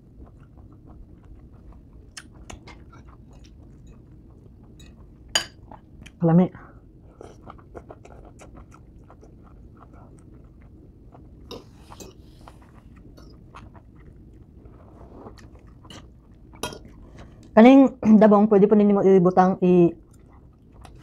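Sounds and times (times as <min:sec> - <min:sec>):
close chewing with crunches: 0:00.0 - 0:06.2, 0:07.0 - 0:17.6, 0:20.0 - 0:21.0.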